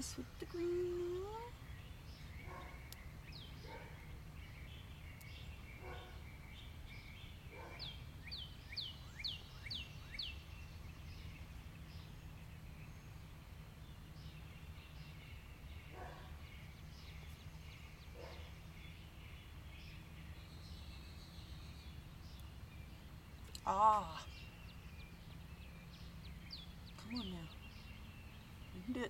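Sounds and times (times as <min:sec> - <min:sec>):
faint bird chirps: 0:00.0 - 0:29.0
low background hum: 0:00.0 - 0:29.0
songbird singing: 0:00.0 - 0:29.0.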